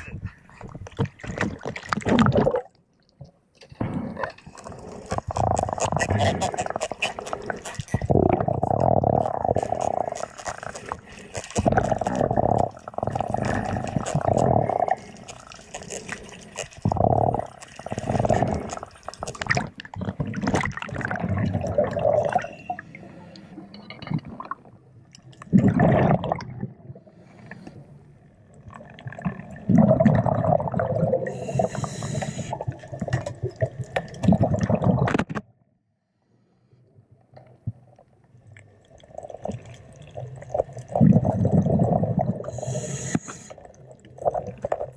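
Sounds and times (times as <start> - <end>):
underwater bubbles from diver: 0.0 - 2.8, 3.8 - 27.2, 28.5 - 35.3, 38.6 - 44.9.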